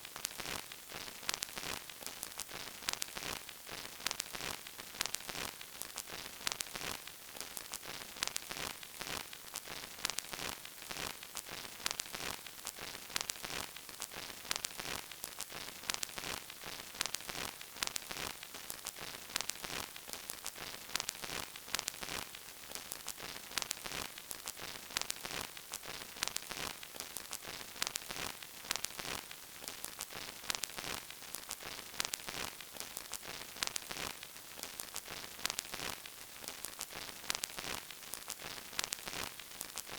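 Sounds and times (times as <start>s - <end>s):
vinyl record crackle and hiss: 0.0s - 39.9s.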